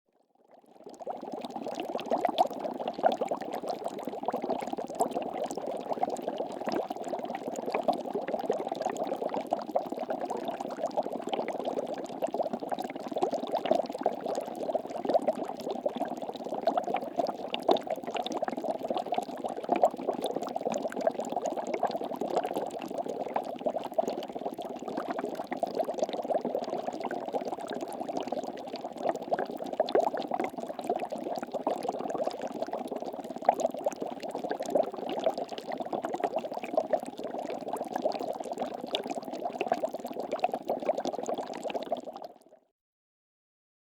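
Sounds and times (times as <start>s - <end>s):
water bubbling: 0.9s - 42.4s.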